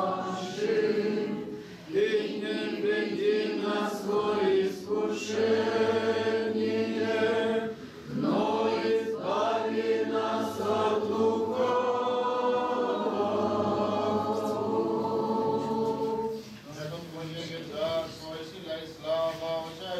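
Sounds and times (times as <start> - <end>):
male choir chanting: 0.0 - 16.3.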